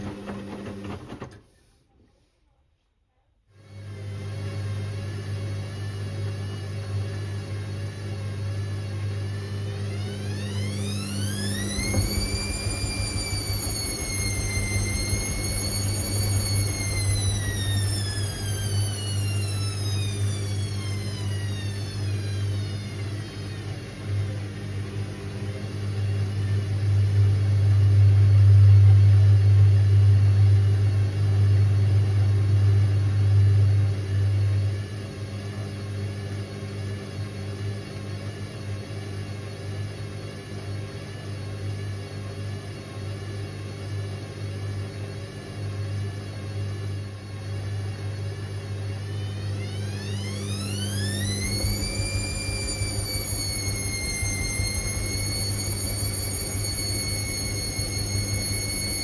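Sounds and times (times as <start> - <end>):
washing machine motor whine: 0.0 - 1.5, 3.5 - 59.0.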